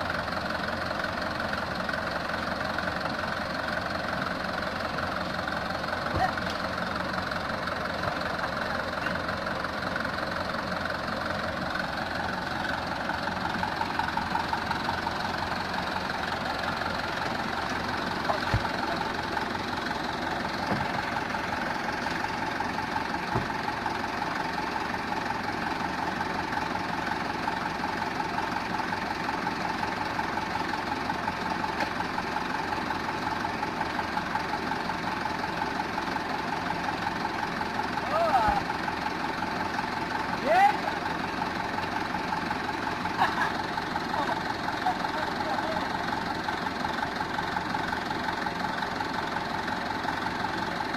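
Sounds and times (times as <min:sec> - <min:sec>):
diesel truck engine clattering: 0:00.0 - 0:50.9.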